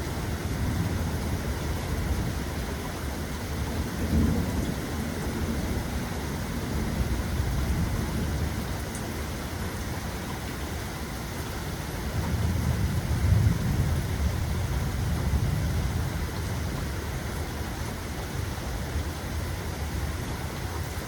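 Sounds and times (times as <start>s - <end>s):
low rumble of thunder: 0.0s - 21.0s
steady rain falling: 0.0s - 21.0s.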